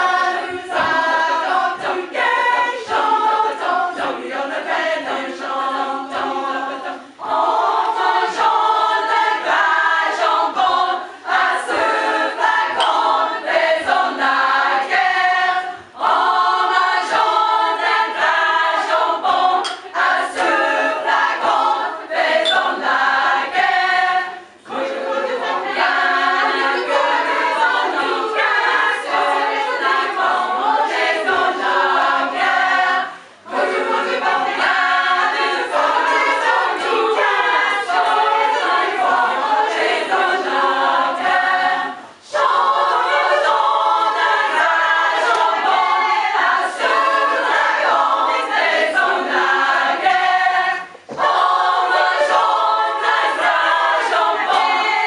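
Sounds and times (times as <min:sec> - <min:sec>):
women's choir singing: 0:00.0 - 0:55.0.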